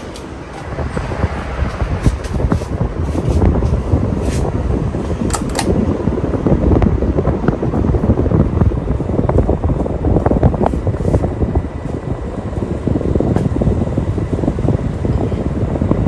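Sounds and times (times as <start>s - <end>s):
ceiling fan running: 0.0s - 16.0s.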